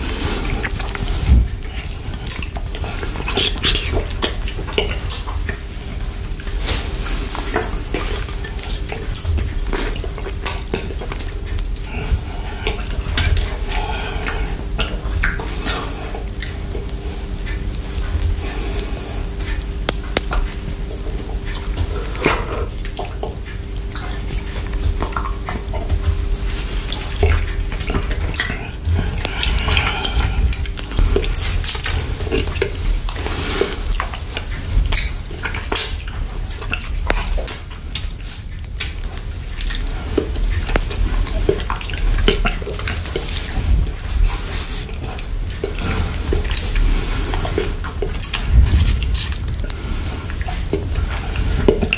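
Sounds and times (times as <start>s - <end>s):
steady low hum: 0.0s - 51.9s
wet mouth eating sounds: 0.0s - 51.9s.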